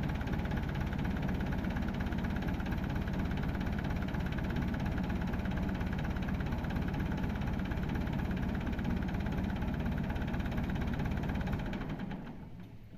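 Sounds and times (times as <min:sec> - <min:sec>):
tractor diesel engine idling: 0:00.0 - 0:12.4.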